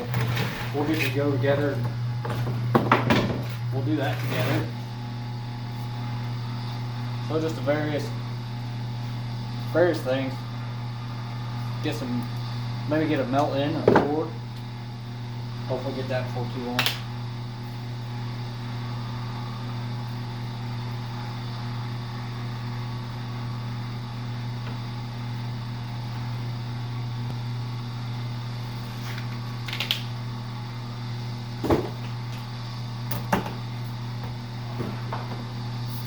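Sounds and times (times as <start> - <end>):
electric motor humming: 0.0 - 36.0.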